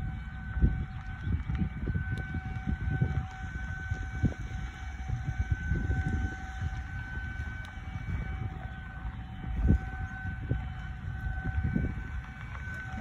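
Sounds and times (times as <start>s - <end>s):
distant tornado siren: 0.0s - 13.0s
wind rumble on microphone: 0.0s - 13.0s.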